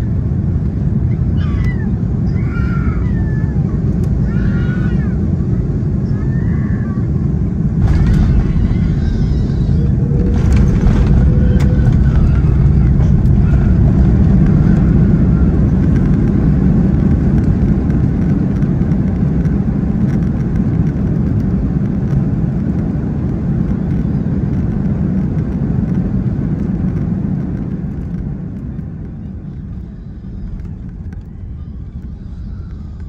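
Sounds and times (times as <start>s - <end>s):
jet engines and wheels rumbling: 0.0s - 33.0s.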